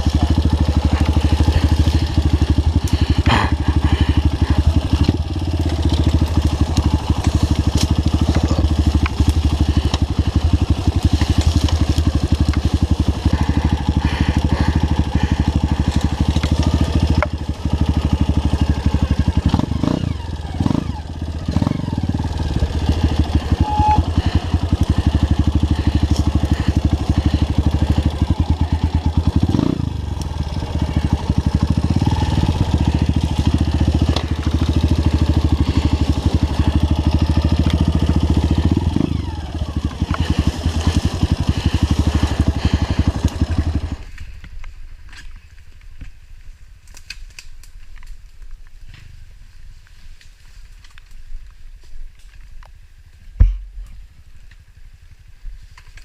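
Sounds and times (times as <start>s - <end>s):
vehicle engine running: 0.0s - 46.1s.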